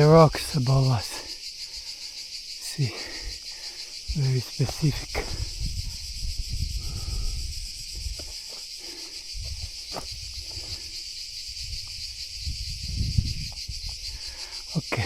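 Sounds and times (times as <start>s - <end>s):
high insect chorus: 0.0s - 15.0s.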